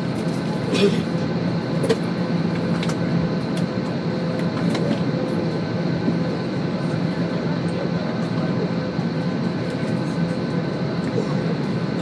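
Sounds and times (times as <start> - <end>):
airliner cabin engine hum: 0.0 - 12.0.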